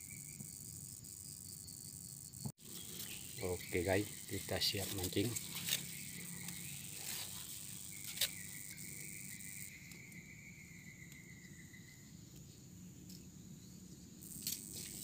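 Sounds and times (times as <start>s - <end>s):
insects high-pitched whine: 0.0s - 15.0s
lower insect tone: 0.0s - 15.0s.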